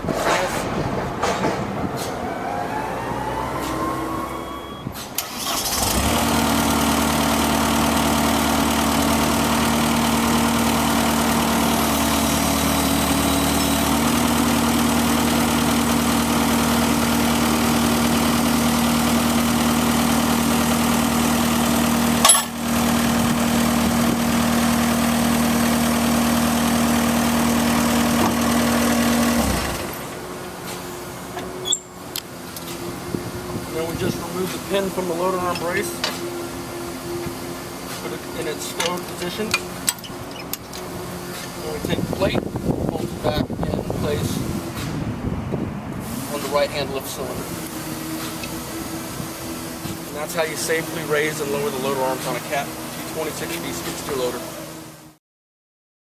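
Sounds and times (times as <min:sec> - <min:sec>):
diesel engine running: 0:00.0 - 0:55.2.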